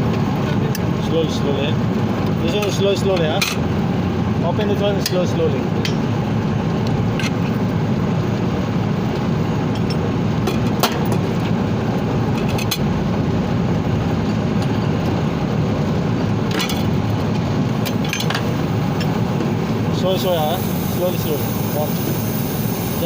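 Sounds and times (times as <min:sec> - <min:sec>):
machinery droning: 0:00.0 - 0:23.0.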